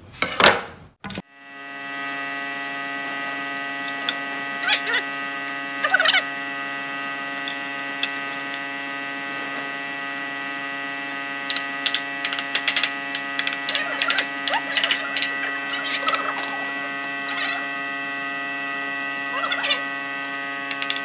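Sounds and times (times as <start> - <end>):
steady hum: 1.3 - 21.0.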